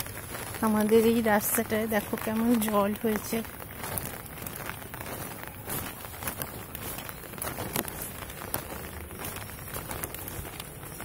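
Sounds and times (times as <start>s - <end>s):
light rain pattering: 0.0s - 11.0s.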